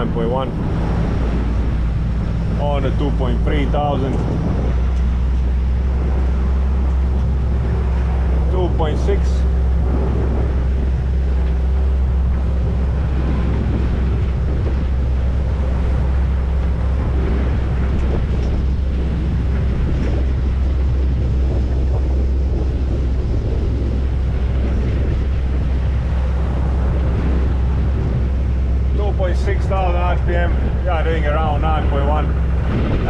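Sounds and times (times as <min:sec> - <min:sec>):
boat diesel engine running: 0:00.0 - 0:33.0
water rushing past hull: 0:00.0 - 0:33.0
wind buffeting microphone: 0:00.0 - 0:33.0.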